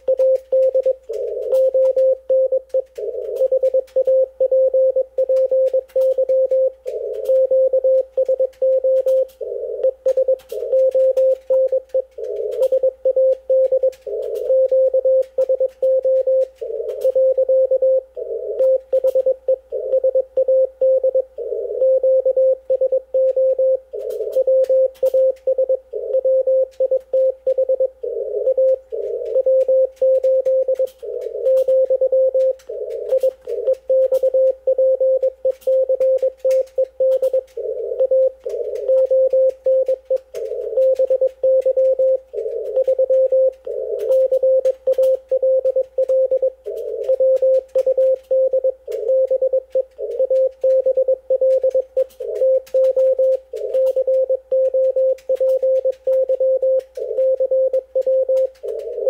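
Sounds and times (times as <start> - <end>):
faint static crackles: 0.0 - 59.0
morse code beat tone: 0.0 - 59.0.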